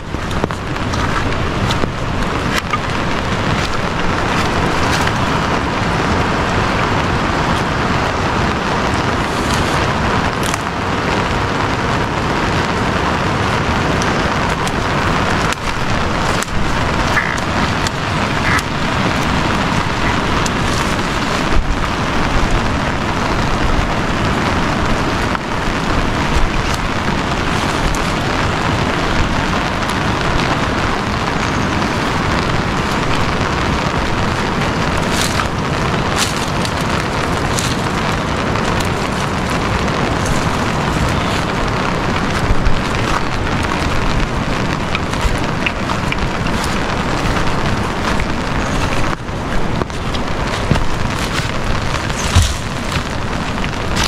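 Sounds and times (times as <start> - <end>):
dry branches snapping: 0.0 - 54.0
loud rushing noise: 0.0 - 54.0.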